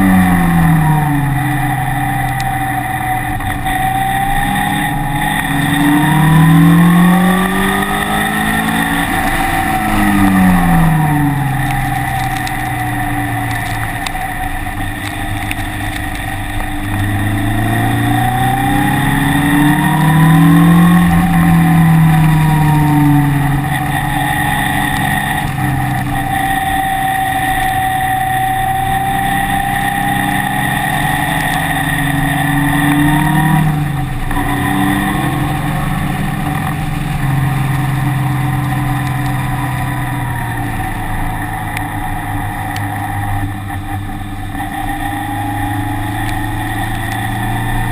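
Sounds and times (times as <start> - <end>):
car engine revving: 0.0 - 47.9
steady high whine: 0.0 - 47.9.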